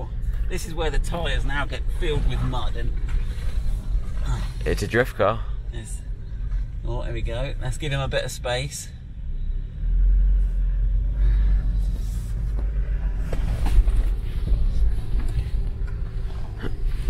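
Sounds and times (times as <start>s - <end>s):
low rumble in vehicle cabin: 0.0s - 17.0s.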